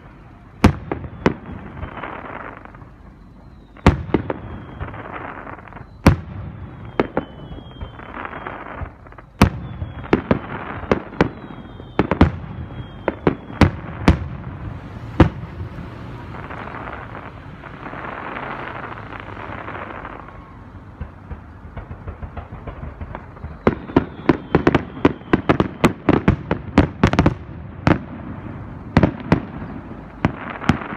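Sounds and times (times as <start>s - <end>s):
firework hiss: 0.0s - 27.3s
firework whistles: 0.0s - 30.9s
firework shells bursting: 0.1s - 30.9s.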